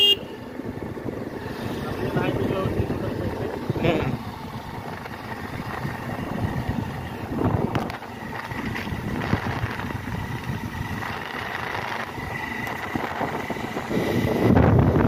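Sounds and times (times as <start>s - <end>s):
motorcycle engine running: 0.0s - 15.0s
wind rushing on microphone: 0.6s - 15.0s.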